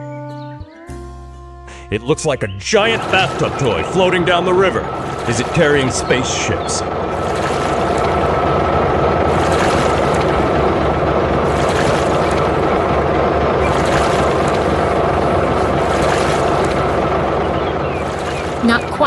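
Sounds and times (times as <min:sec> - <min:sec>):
boat engine running: 0:01.1 - 0:19.0
water rushing: 0:02.7 - 0:19.0.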